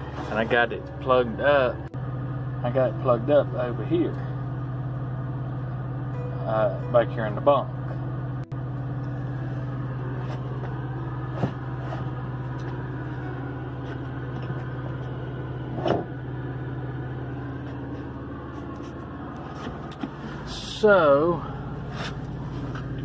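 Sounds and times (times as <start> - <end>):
low drone inside truck cab: 0.0 - 23.0.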